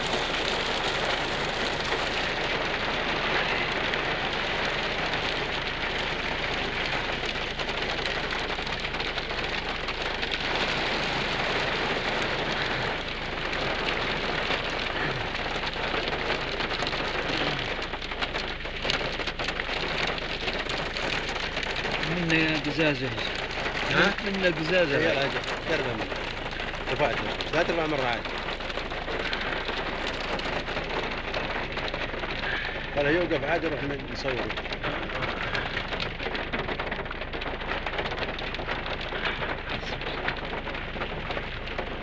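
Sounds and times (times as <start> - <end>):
heavy rain on wet stone: 0.0 - 42.0.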